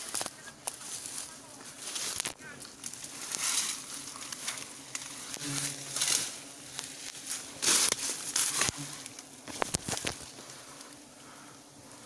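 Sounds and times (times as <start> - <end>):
twigs snapping: 0.0 - 1.2, 1.8 - 10.9
leaves and undergrowth rustling: 0.0 - 12.0.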